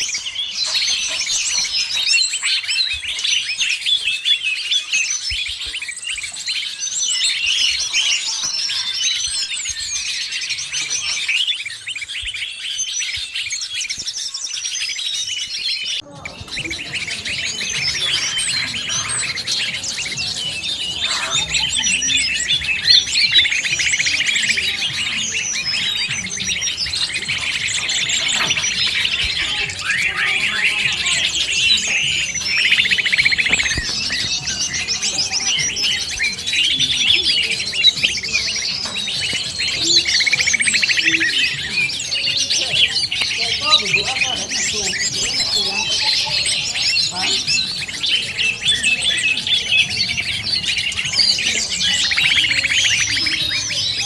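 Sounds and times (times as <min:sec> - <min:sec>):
background noise: 0:00.0 - 0:54.0
leafbird calls: 0:00.0 - 0:54.0
small birds chirping: 0:00.0 - 0:54.0.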